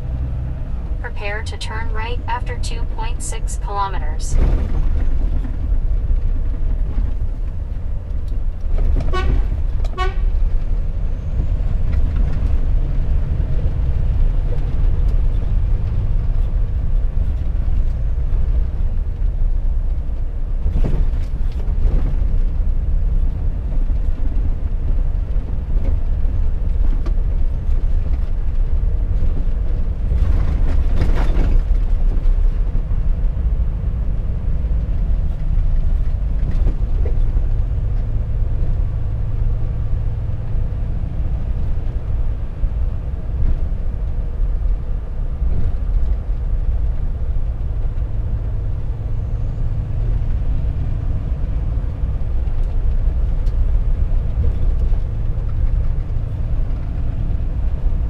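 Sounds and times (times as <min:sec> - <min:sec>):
diesel truck engine drone: 0:00.0 - 0:58.0.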